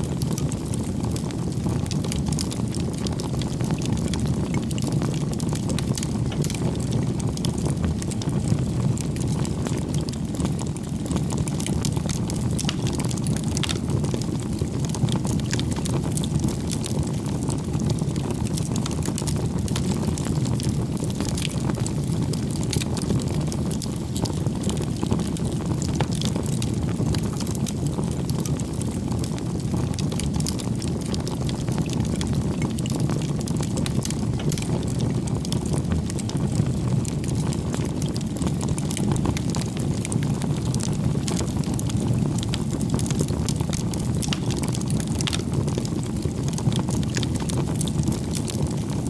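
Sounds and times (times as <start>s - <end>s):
burning wood crackling and popping: 0.0s - 49.0s
flames rushing: 0.1s - 49.0s.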